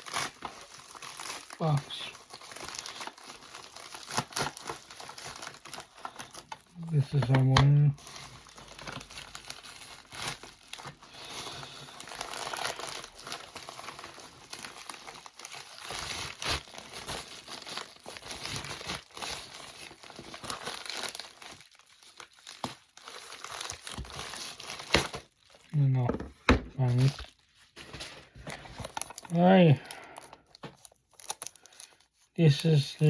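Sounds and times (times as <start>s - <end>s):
packaging crinkling and rustling: 0.0s - 33.0s.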